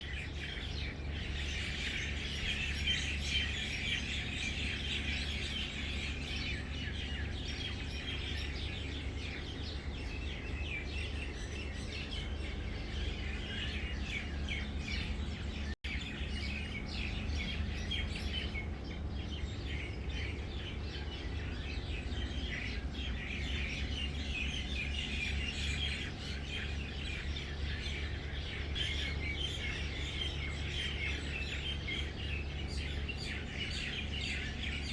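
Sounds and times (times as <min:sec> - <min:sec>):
small birds chirping: 0:00.0 - 0:34.9
steady low hum: 0:00.0 - 0:34.9.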